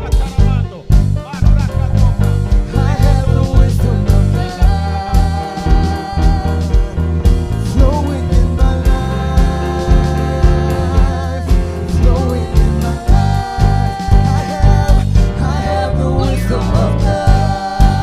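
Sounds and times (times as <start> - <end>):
person singing: 0.0 - 7.0, 7.6 - 18.0
worship band playing: 0.0 - 18.0.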